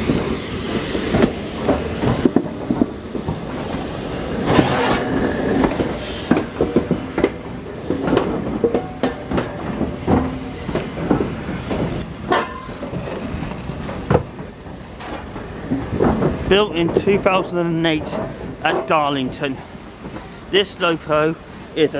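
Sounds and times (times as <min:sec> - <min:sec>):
locomotive clanking on track: 0:00.0 - 0:21.9
steam locomotive hissing steam: 0:00.0 - 0:21.9.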